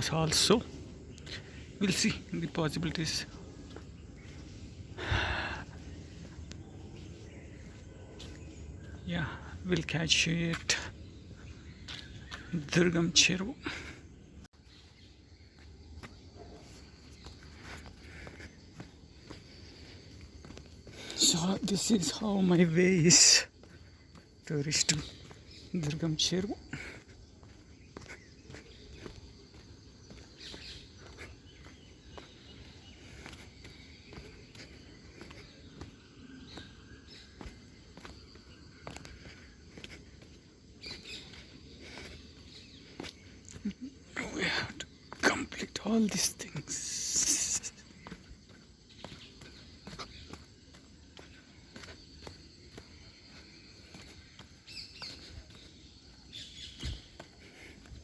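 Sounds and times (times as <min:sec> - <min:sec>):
birds chirping: 0:00.0 - 0:58.0
faint outdoor background noise: 0:00.0 - 0:58.0
footsteps on a trail: 0:00.0 - 0:58.0.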